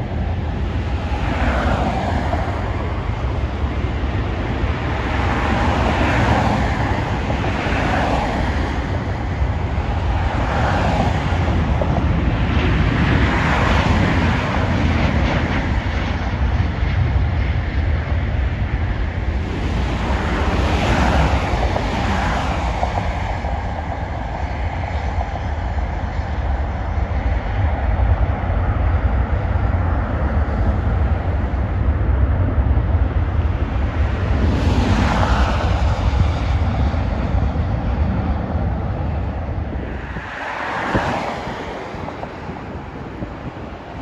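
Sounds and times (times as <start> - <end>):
jet airliner engines rushing: 0.0 - 44.0.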